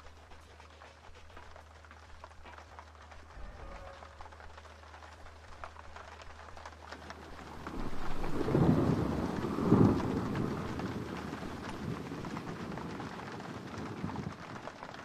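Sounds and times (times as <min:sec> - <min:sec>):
old film soundtrack hiss and crackle: 0:00.0 - 0:15.0.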